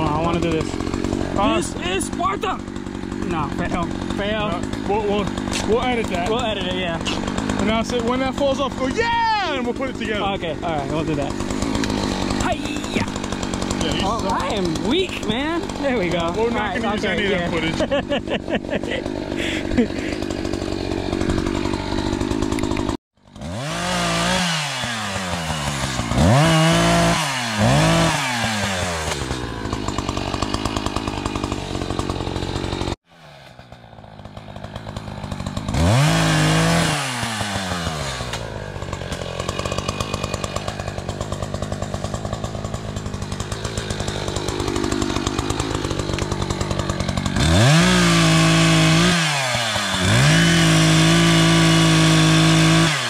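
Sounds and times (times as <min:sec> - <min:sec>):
chainsaw revving and cutting: 0:00.0 - 0:53.0.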